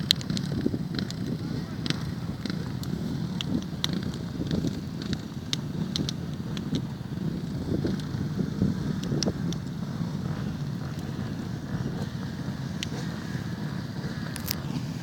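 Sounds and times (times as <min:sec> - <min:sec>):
motorcycle engines rumbling: 0:00.0 - 0:15.0
wind buffeting microphone: 0:00.0 - 0:15.0.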